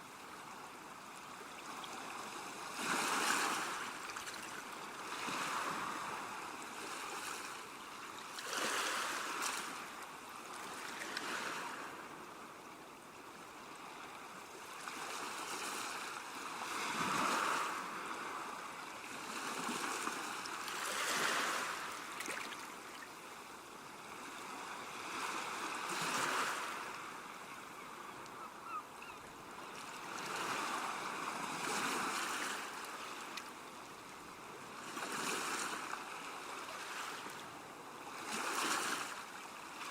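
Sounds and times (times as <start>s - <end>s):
sea waves breaking on shore: 1.4s - 12.5s, 13.6s - 39.9s.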